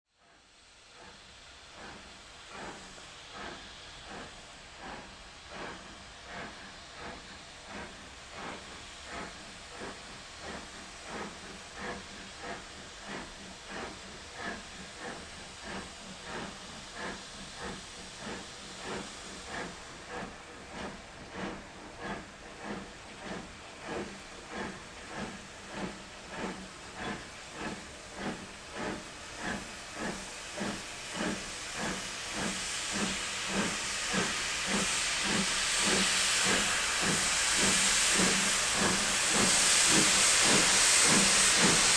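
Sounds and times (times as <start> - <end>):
steam locomotive exhaust beats: 0.2 - 41.9
loud steam hiss: 0.4 - 41.9.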